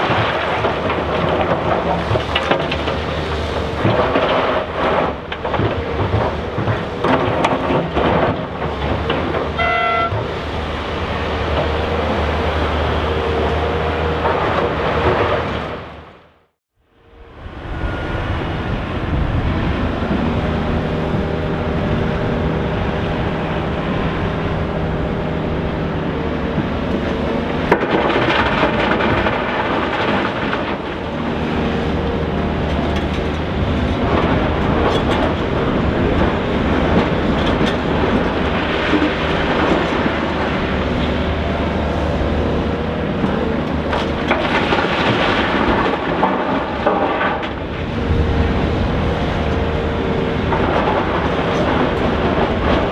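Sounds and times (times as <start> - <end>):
diesel engines running under load: 0.0 - 16.4, 17.0 - 52.9.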